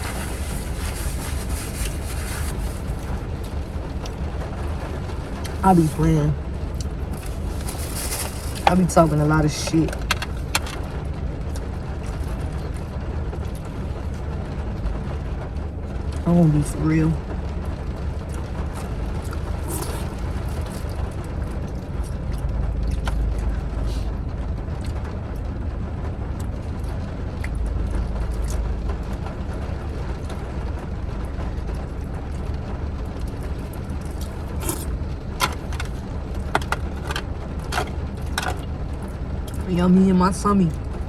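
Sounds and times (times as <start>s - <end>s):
vehicle idling rumble: 0.0s - 41.0s.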